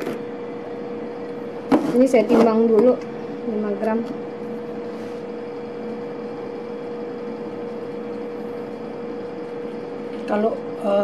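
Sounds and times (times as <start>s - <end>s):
constant mid-pitched machine tone: 0.0s - 11.0s.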